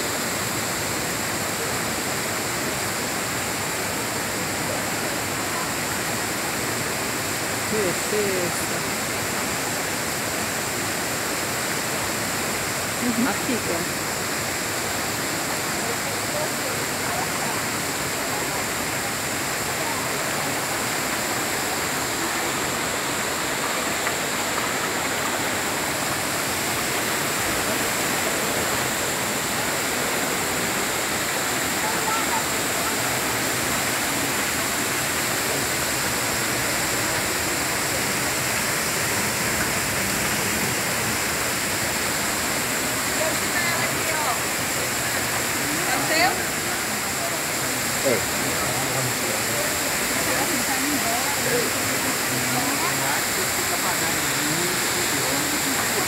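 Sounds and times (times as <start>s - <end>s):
stream running over boulders: 0.0s - 56.0s
waterfall rushing: 0.0s - 56.0s.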